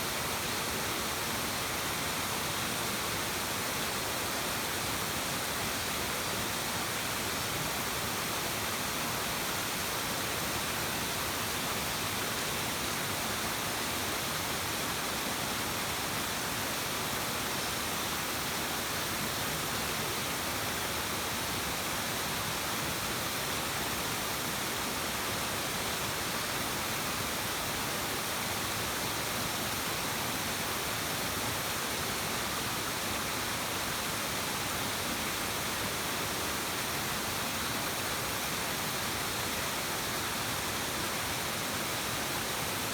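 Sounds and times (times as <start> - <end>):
stream water rushing: 0.0 - 42.9.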